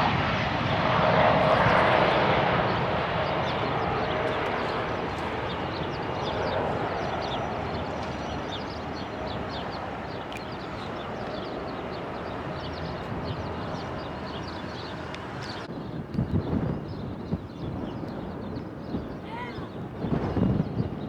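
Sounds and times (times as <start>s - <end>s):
jet airliner engine noise: 0.0s - 21.0s
small birds chirping: 1.4s - 21.0s.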